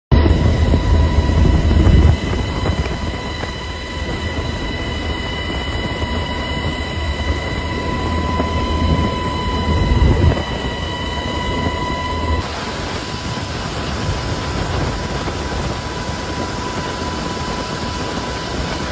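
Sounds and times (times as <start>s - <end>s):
steady high whine: 0.1s - 18.9s.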